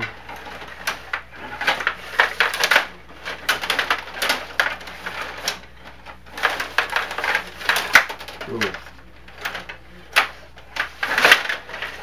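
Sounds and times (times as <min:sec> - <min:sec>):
table hockey plastic clicks: 0:00.0 - 0:12.0.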